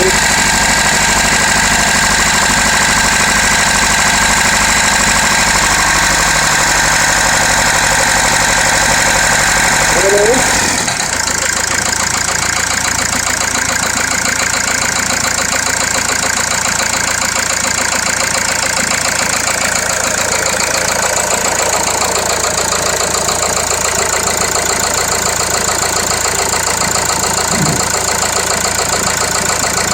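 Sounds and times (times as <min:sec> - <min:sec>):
diesel engine idling with clatter: 0:00.0 - 0:29.9.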